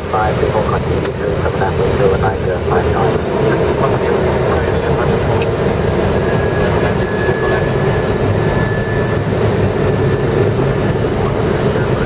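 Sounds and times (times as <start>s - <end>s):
cockpit airflow and engine noise: 0.0s - 12.0s.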